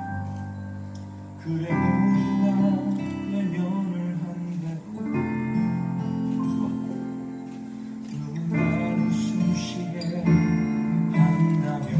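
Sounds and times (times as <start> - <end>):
strummed guitar chords: 0.0 - 11.9
person singing: 1.4 - 11.9.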